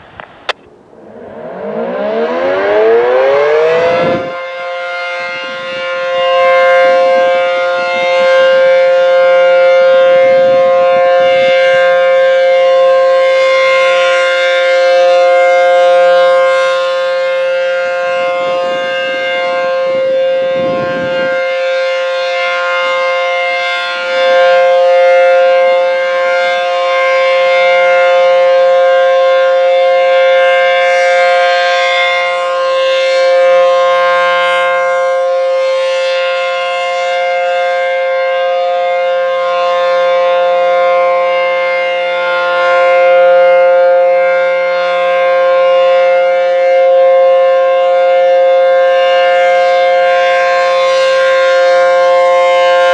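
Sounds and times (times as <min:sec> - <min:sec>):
outdoor warning siren: 0:00.0 - 0:52.9.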